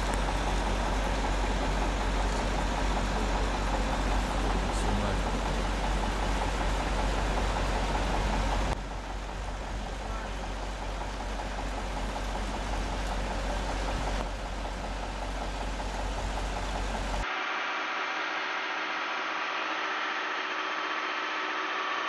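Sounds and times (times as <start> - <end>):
crane engine rumbling: 0.0 - 22.0.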